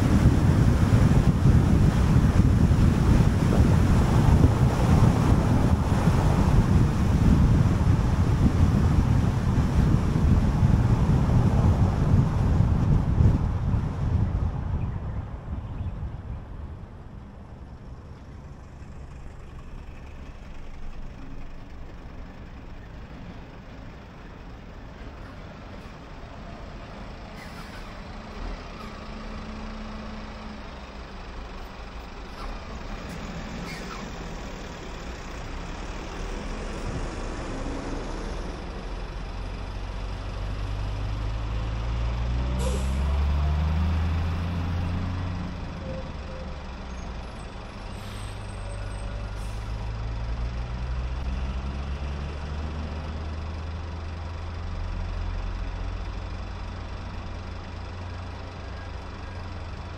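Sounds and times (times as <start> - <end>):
car tyre and wind noise: 0.0 - 29.7, 30.4 - 54.0
vehicle engine drone: 0.0 - 59.9.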